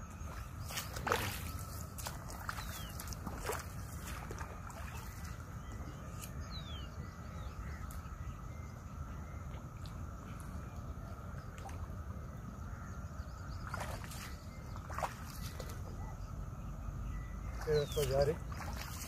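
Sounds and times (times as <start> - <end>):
low wind rumble: 0.0 - 19.0
faint bird calls: 0.3 - 19.0.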